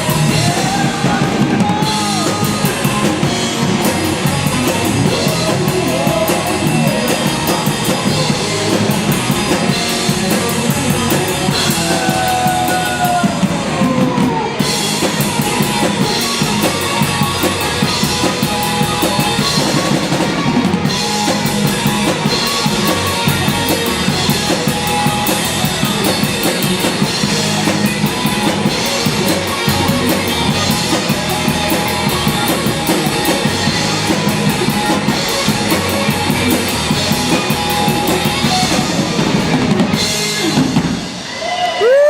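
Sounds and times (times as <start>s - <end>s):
driving drum beat: 0.0s - 42.0s
rock band playing loudly: 0.0s - 42.0s.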